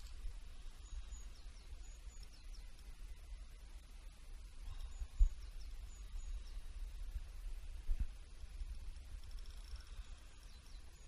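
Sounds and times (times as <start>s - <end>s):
distant small birds chirping: 0.0s - 11.0s
wind rumbling on microphone: 0.0s - 11.0s.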